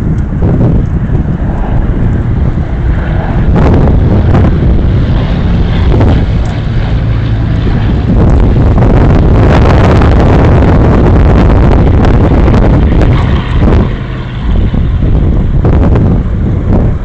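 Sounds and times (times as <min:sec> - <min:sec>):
low engine drone: 0:00.0 - 0:17.0
wind buffeting microphone: 0:00.0 - 0:17.0.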